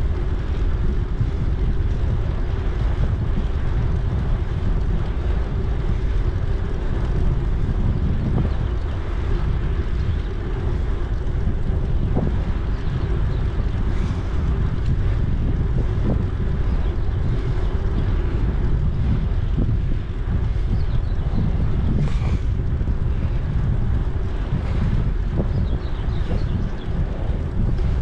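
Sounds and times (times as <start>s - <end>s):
bicycle rolling noise: 0.0s - 28.0s
wind buffeting microphone: 0.0s - 28.0s.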